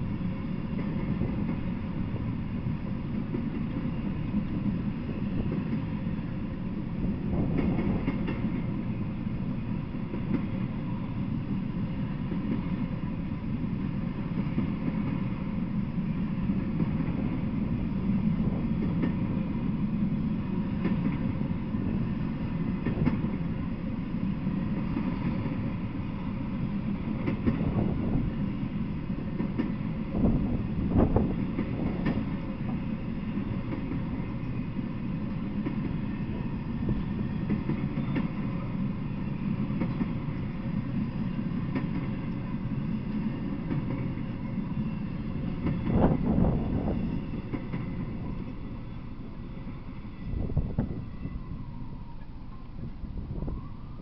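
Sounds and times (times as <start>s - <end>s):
train wheels rumbling on rail: 0.0s - 54.0s
train cars clanking: 0.2s - 11.3s, 11.9s - 52.6s.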